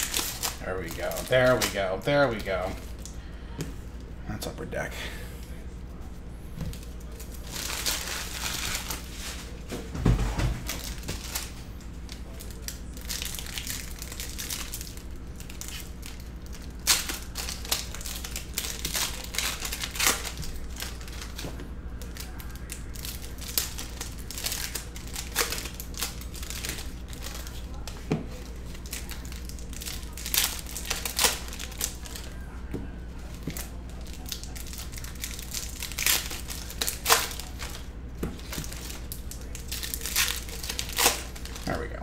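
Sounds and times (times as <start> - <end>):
foil wrappers crinkling: 0.0 - 3.2, 5.4 - 42.0.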